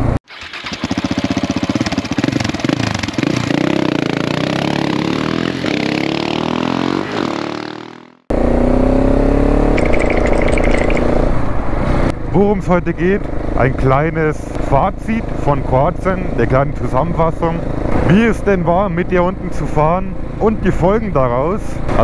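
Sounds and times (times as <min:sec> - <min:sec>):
motorcycle cruising: 0:00.0 - 0:22.0
road and wind noise: 0:00.0 - 0:22.0
motorcycle engine revving: 0:00.3 - 0:12.3, 0:13.0 - 0:22.0.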